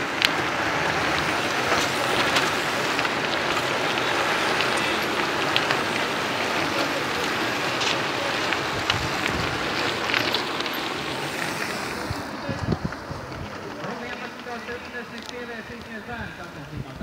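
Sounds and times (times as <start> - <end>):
bike tyres crunching on gravel: 0.0 - 17.0.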